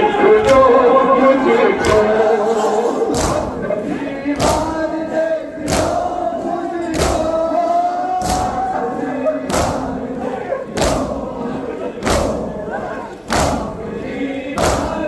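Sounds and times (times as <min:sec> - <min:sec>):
crowd beating chests: 0:00.0 - 0:15.0
people singing a chant: 0:00.0 - 0:15.0.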